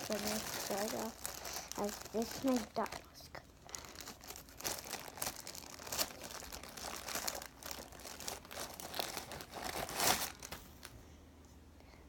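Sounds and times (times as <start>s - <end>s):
packaging crinkling and tearing: 0.0s - 10.9s.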